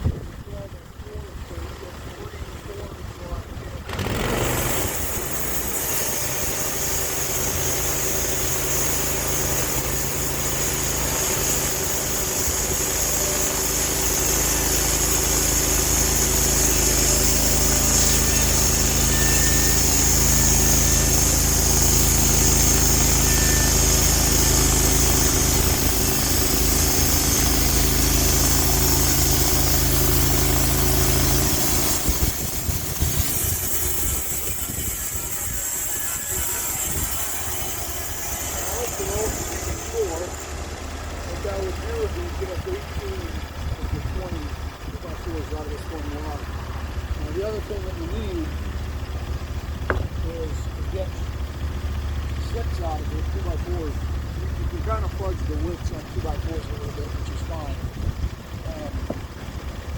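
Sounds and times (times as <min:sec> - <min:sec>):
high whine: 0:00.0 - 0:59.9
sawmill engine running: 0:00.0 - 0:59.9
saw cutting through log: 0:03.8 - 0:59.9.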